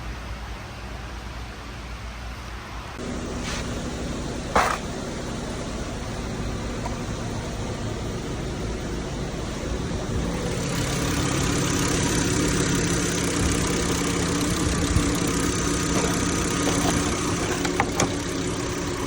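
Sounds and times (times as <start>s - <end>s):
car engine idling: 3.0s - 19.0s.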